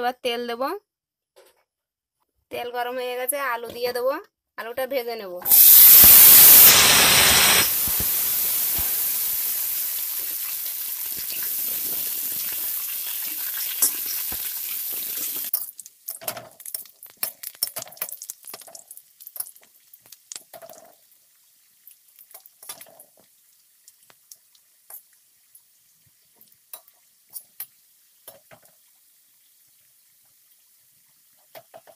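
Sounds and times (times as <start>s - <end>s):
potatoes sizzling in hot oil: 5.5s - 31.9s.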